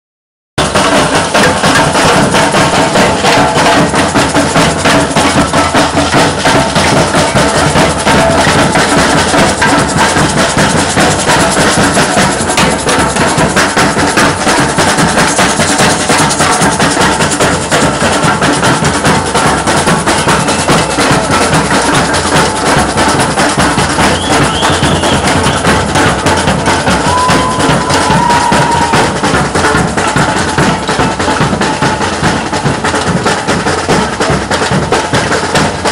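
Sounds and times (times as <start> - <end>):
bass drums pounding: 0.6 - 35.9
snare drums: 0.6 - 35.9.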